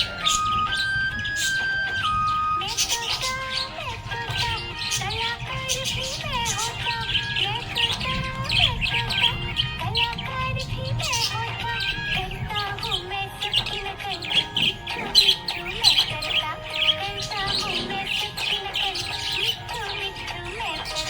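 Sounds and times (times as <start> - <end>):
budgerigars chirping and warbling: 0.0 - 21.0.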